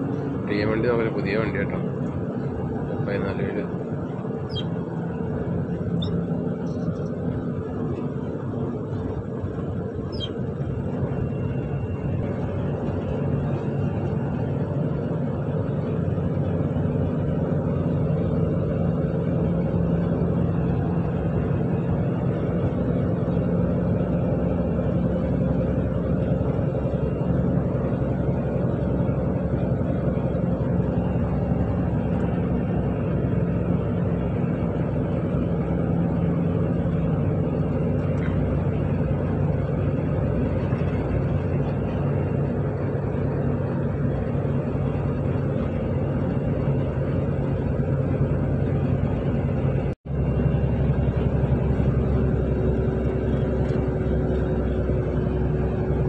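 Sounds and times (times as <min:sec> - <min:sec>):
truck diesel engine running: 0:00.0 - 0:56.0
tyre and road noise: 0:00.0 - 0:56.0.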